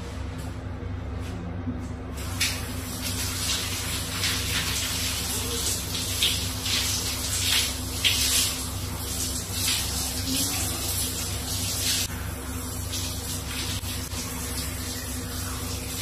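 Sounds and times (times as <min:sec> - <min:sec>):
shower water splashing: 0:02.2 - 0:16.0.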